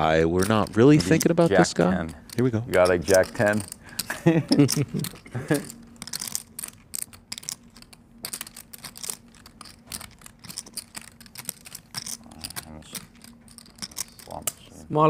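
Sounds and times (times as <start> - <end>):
faint steady hum: 0.0 - 15.0
poker chips clicking: 0.4 - 14.7.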